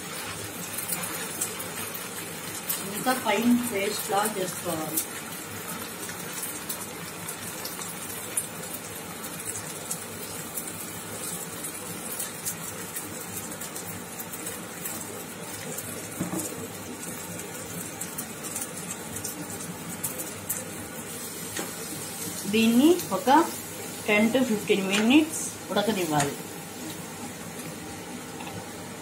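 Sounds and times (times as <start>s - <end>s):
paste sizzling in a hot pan: 0.0s - 29.0s.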